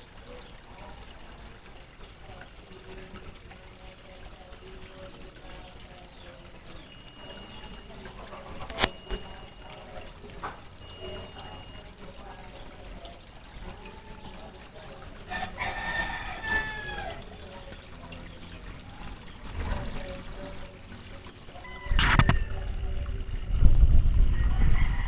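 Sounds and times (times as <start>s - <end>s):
waterfall splashing into pond: 0.0s - 23.5s.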